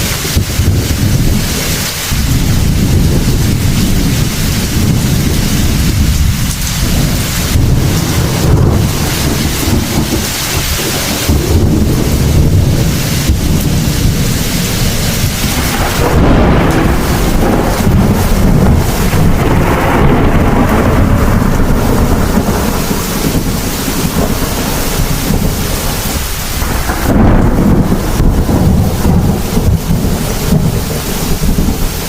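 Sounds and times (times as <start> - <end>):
heavy rain: 0.0 - 32.0
thunder rumbling: 0.0 - 32.0.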